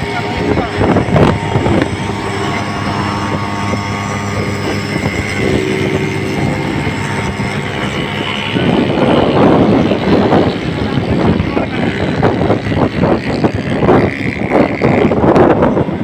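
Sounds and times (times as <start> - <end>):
motorcycle and rickshaw engines droning: 0.0 - 16.0
road noise: 0.0 - 16.0.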